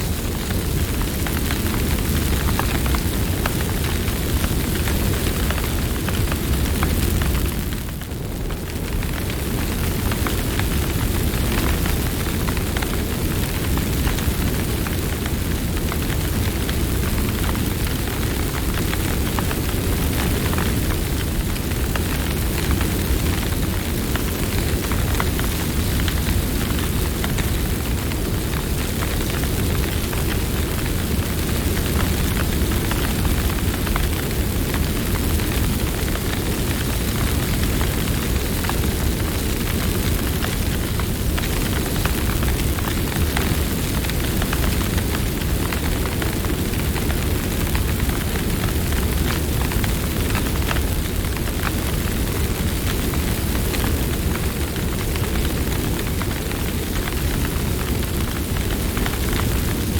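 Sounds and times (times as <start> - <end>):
low rumble of flames: 0.0 - 59.9
wood crackling and popping: 0.0 - 59.9.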